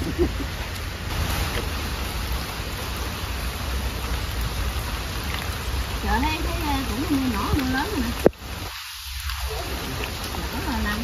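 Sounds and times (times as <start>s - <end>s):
outdoor hiss: 0.0s - 11.0s.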